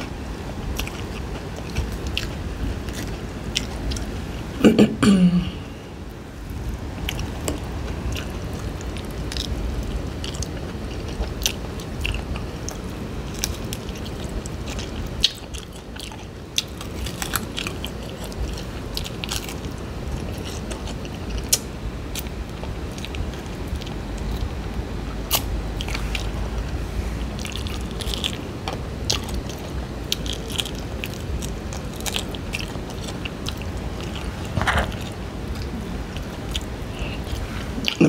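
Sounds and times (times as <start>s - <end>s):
biting and chewing fried fish: 0.0s - 4.2s, 6.6s - 38.0s.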